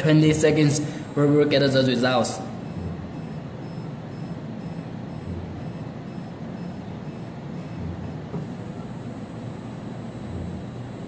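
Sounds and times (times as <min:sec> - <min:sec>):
faint high pulsing whine: 0:00.0 - 0:11.0
machine humming: 0:00.0 - 0:11.0.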